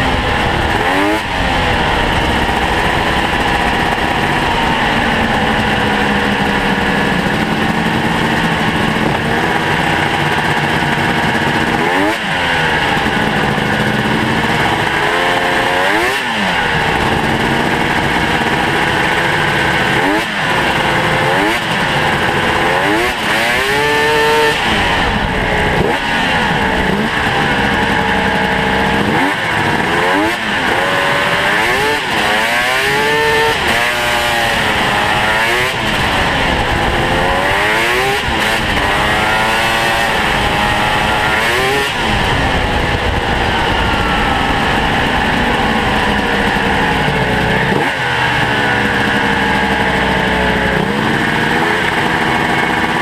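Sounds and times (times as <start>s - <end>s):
drivetrain and track noise: 0.0s - 53.0s
snowmobile engine revving: 0.0s - 53.0s.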